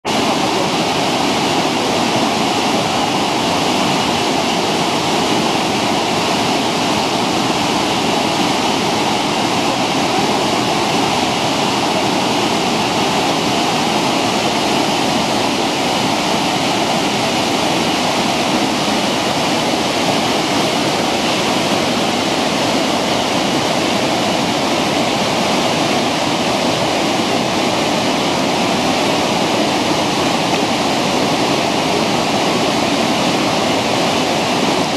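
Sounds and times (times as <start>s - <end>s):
waterfall and rapids rushing: 0.0s - 34.9s.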